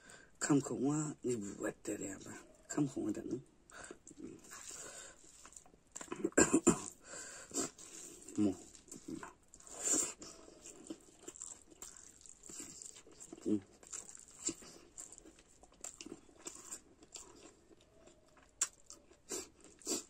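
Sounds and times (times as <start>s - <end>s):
chewing and mouth smacks: 3.7s - 20.0s
crunchy bites of food: 3.8s - 20.0s.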